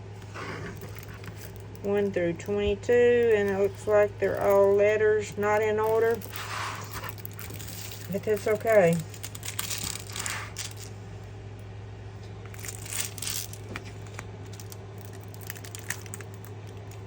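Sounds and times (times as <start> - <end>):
plastic bags rustling: 0.2 - 2.2, 3.0 - 11.0, 12.2 - 17.0.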